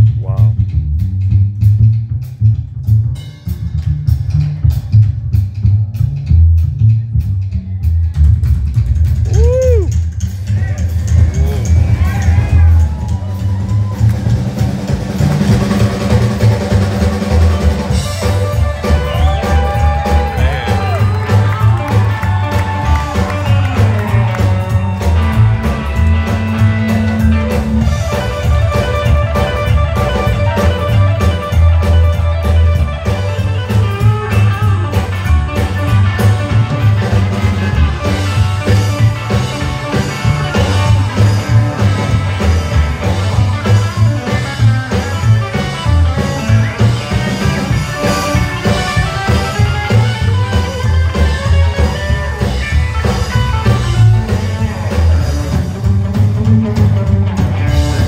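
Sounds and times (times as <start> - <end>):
drum kit steady beat: 0.0 - 58.0
upright bass line: 0.0 - 58.0
electric guitar lead lines: 10.5 - 58.0.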